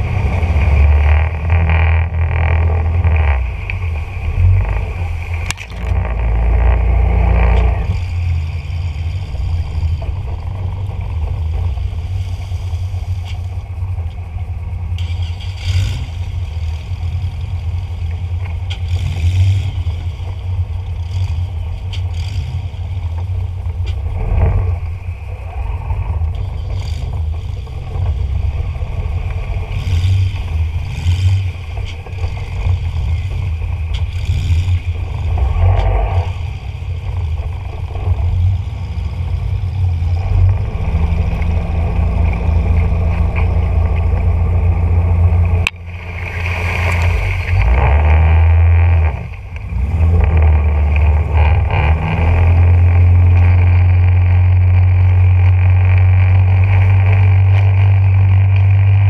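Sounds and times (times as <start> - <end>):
boat engines running: 0.0 - 59.0.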